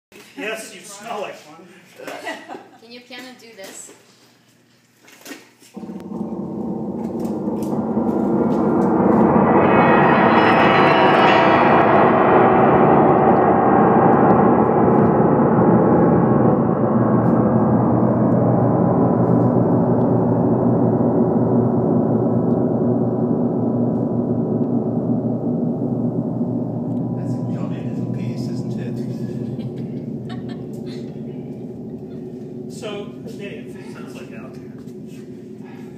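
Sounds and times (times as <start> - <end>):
piano strings ringing: 5.8 - 35.9.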